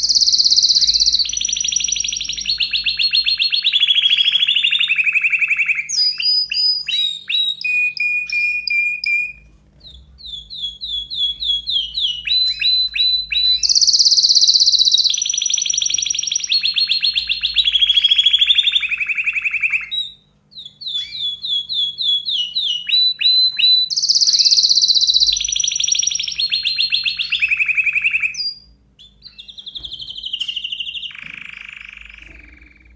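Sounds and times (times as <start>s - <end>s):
canary singing: 0.0s - 32.9s
faint low hum: 0.0s - 32.9s.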